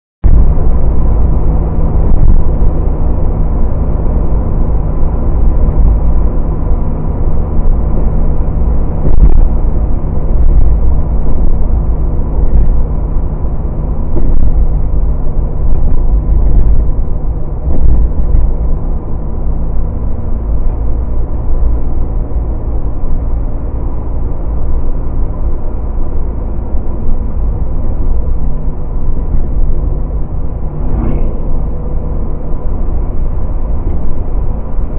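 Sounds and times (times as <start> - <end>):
car interior driving rumble: 0.2 - 34.9.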